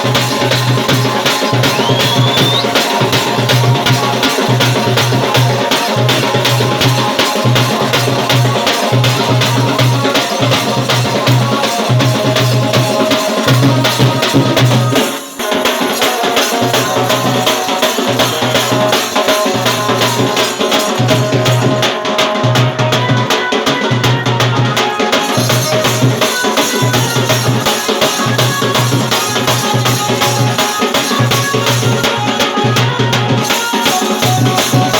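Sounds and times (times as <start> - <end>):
drums beating a rhythm: 0.0 - 34.9
jangling rattling percussion: 0.0 - 34.9.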